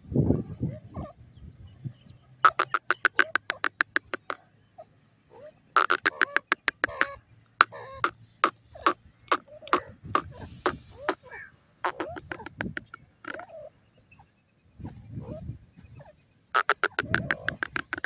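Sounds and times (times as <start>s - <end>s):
francolins calling: 0.9s - 18.0s.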